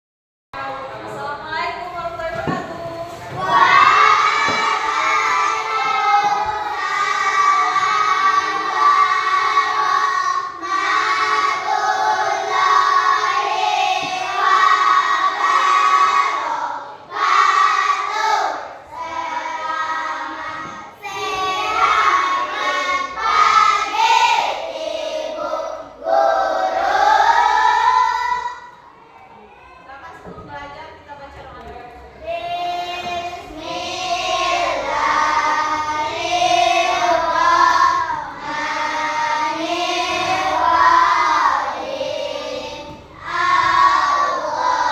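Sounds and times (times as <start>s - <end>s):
children singing together: 2.8s - 29.6s, 32.2s - 44.9s.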